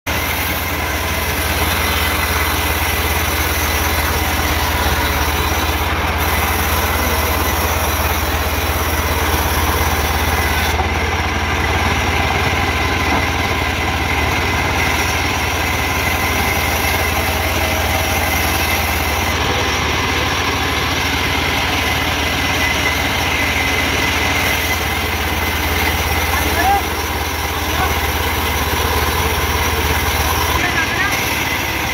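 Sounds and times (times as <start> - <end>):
band sawmill cutting log: 0.1 - 31.9.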